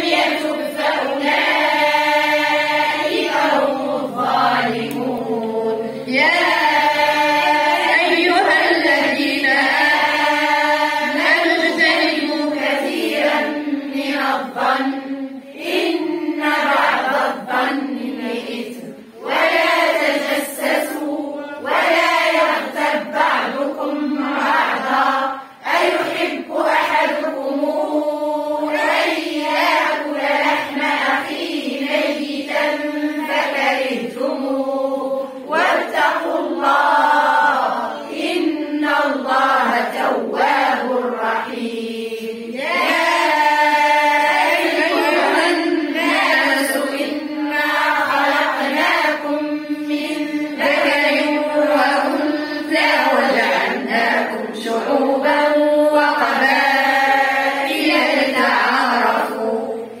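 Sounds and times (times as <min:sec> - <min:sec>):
women chanting in unison: 0:00.0 - 1:00.0.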